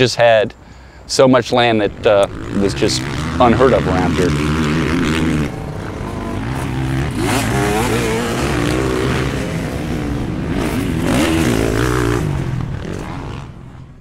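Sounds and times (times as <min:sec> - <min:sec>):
dirt bike engine revving: 0:01.6 - 0:13.9.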